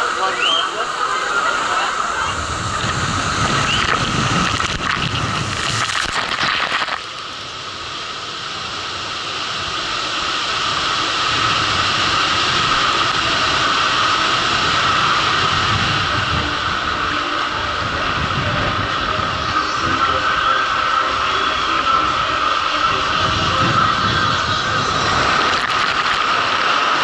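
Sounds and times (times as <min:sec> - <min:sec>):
water rushing down a slide: 0:00.0 - 0:27.0.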